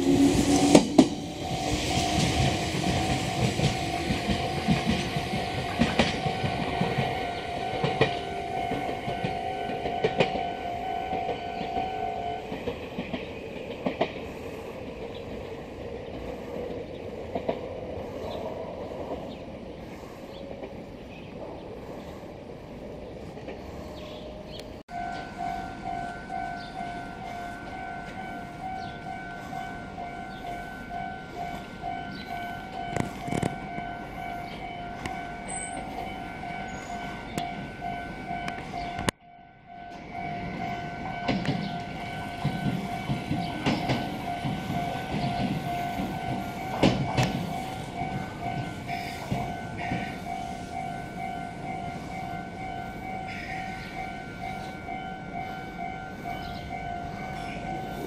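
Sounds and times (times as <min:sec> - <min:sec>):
pulsing warning tone: 0:00.0 - 0:13.1, 0:24.4 - 0:58.0
electric trains running: 0:00.0 - 0:58.0.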